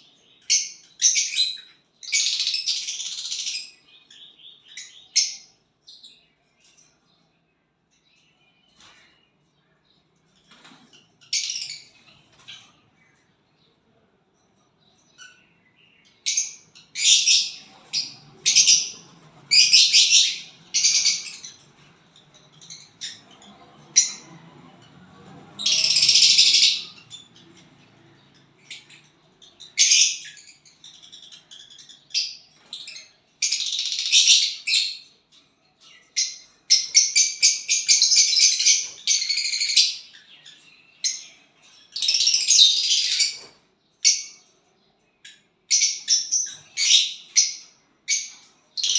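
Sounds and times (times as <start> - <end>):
small bird chirping: 0.0 - 14.0, 14.6 - 48.9.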